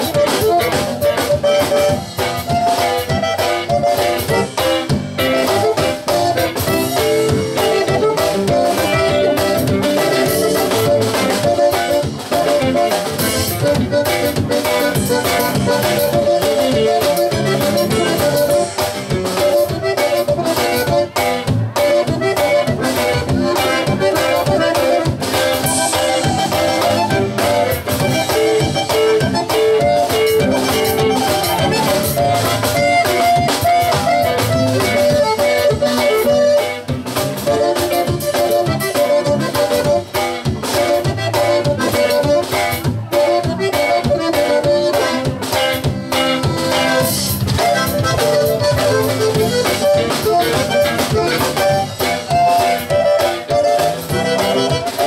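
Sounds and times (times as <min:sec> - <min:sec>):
button accordion melody: 0:00.0 - 0:55.0
drum kit beat: 0:00.0 - 0:55.0
electric bass: 0:00.0 - 0:55.0.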